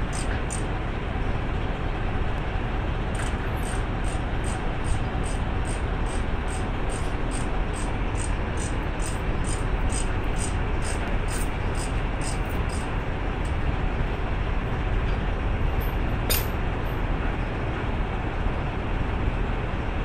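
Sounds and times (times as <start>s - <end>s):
diesel truck rumbling: 0.0s - 20.0s.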